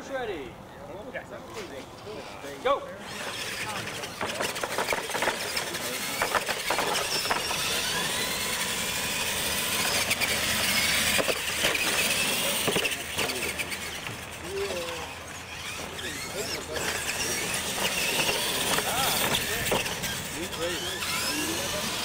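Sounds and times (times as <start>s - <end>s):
electric motors whining: 1.5s - 22.0s.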